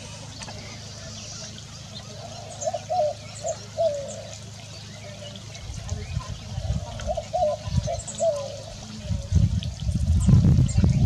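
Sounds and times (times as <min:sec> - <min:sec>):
small birds chirping: 0:00.0 - 0:11.0
water trickling and gurgling: 0:00.0 - 0:11.0.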